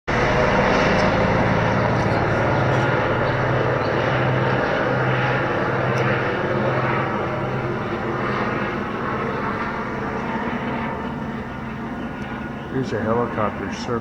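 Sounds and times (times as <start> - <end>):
helicopter flying low overhead: 0.1 - 14.0.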